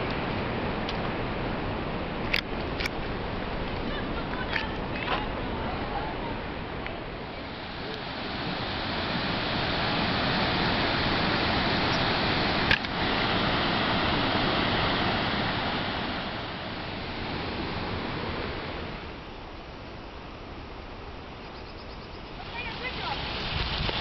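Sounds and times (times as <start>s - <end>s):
waterfall and rapids rushing: 0.0s - 21.4s, 22.2s - 24.0s.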